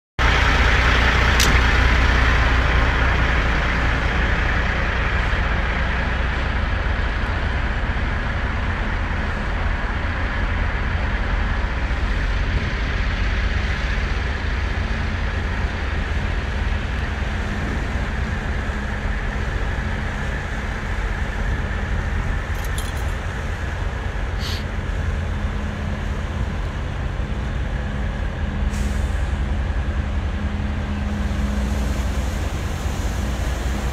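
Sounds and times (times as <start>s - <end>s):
motor vehicle rumble: 0.2s - 33.9s.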